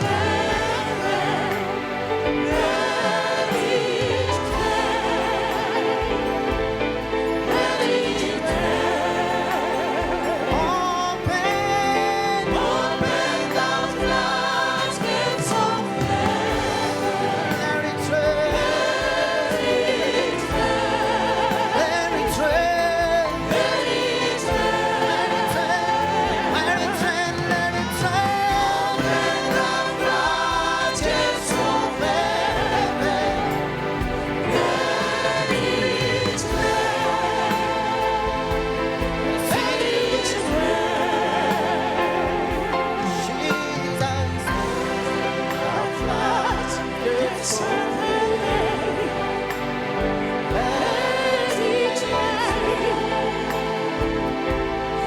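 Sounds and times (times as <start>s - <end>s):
gospel choir singing: 0.0s - 55.0s
musical accompaniment: 0.0s - 55.0s.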